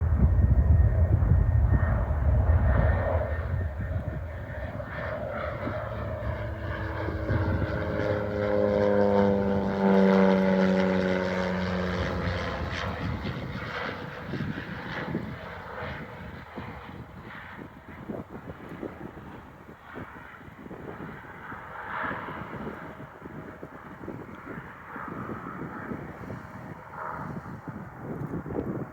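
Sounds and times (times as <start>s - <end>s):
propeller hum: 0.0s - 28.9s
turboprop engine rumble: 0.0s - 28.9s.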